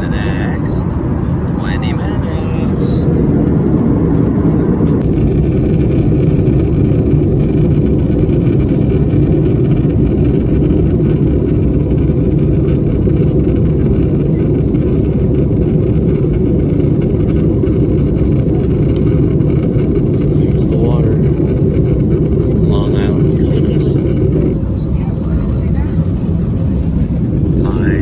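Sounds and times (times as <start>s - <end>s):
airplane cabin low rumble: 0.0s - 28.0s.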